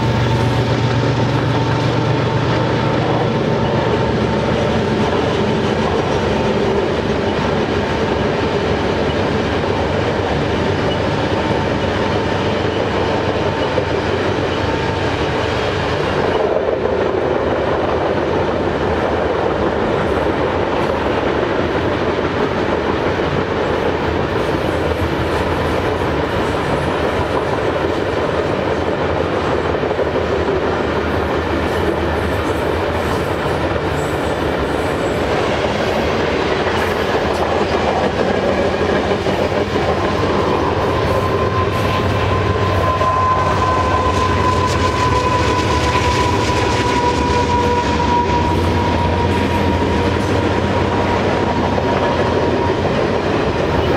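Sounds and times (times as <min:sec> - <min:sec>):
train wheels rolling on rails: 0:00.0 - 0:53.9.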